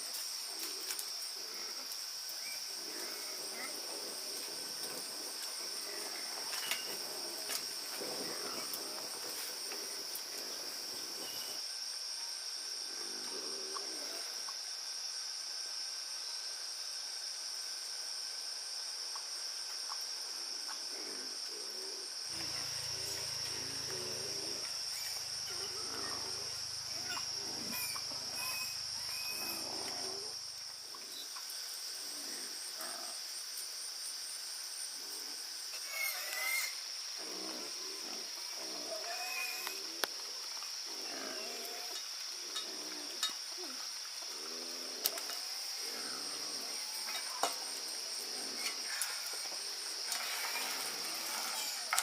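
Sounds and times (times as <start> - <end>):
insect chorus trilling: 0.0 - 52.0.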